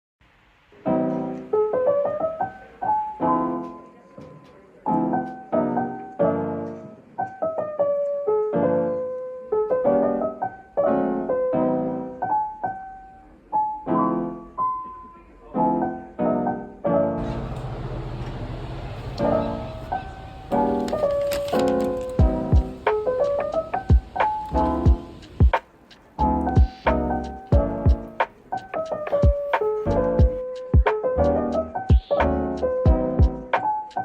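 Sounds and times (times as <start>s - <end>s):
solo piano music: 0.6s - 34.0s.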